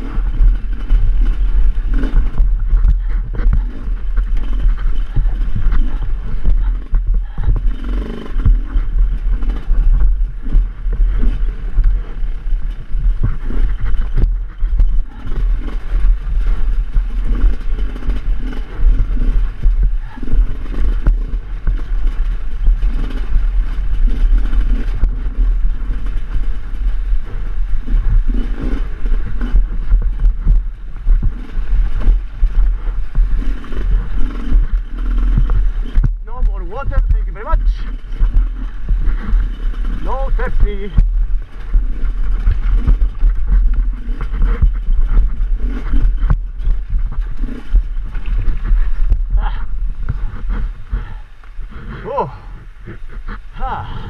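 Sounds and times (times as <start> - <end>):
dirt bike engine revving: 0.0 - 53.9
low rumble: 0.0 - 54.0.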